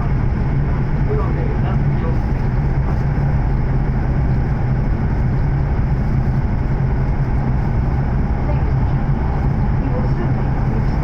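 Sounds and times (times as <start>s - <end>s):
train rumble inside passenger car: 0.0s - 11.0s.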